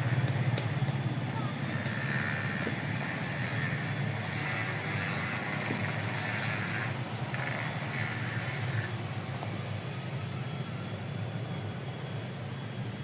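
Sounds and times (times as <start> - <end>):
high hissing buzz: 0.0 - 13.0
small engine humming: 0.0 - 13.0.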